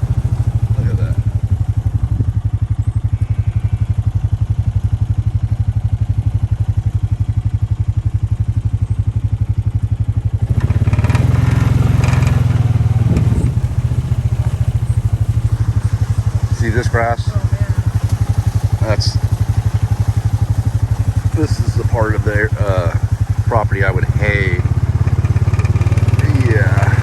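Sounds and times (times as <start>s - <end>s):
small vehicle engine running: 0.0s - 27.0s.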